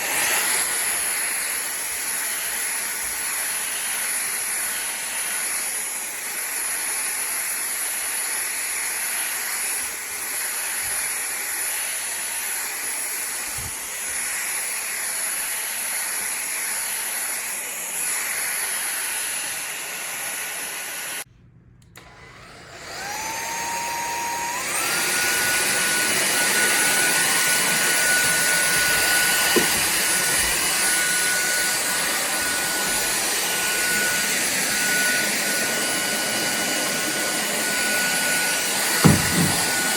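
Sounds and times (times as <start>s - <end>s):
stick vacuum whining: 0.0s - 21.2s, 21.8s - 39.9s.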